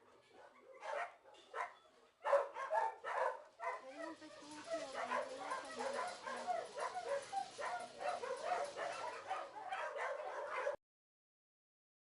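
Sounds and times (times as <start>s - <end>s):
dogs barking and yipping: 0.0s - 10.8s.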